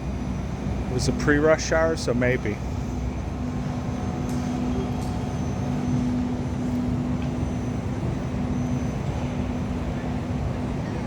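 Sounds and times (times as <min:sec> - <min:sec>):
light rail train rumbling: 0:00.0 - 0:11.0.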